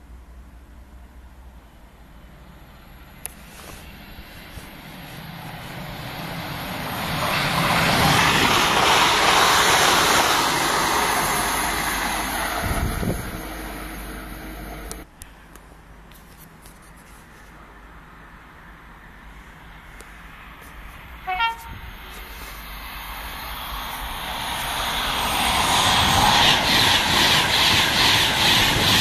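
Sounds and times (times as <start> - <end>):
train passing at speed: 0.2 - 15.1, 17.9 - 29.0.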